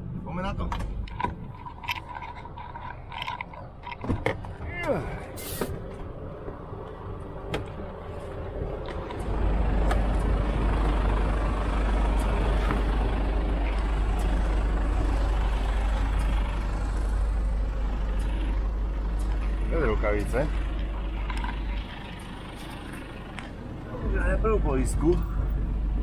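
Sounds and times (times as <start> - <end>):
diesel truck engine idling: 0.9 - 26.0.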